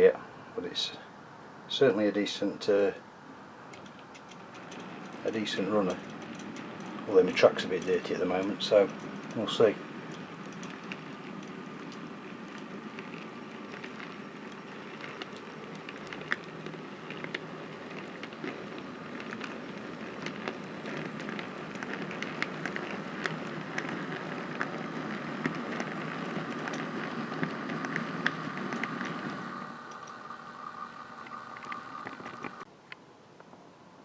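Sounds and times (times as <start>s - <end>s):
wheels clicking on track: 3.7s - 32.7s
model train motor humming: 4.4s - 32.6s.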